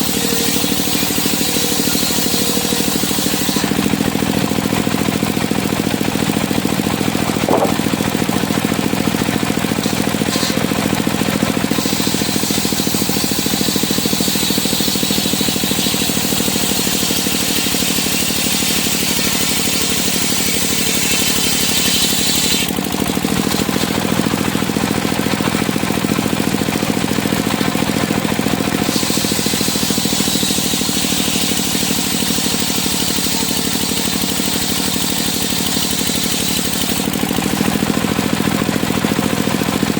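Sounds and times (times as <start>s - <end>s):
circular sawmill running: 0.0s - 39.9s
saw blade whine cutting timber: 0.0s - 39.9s.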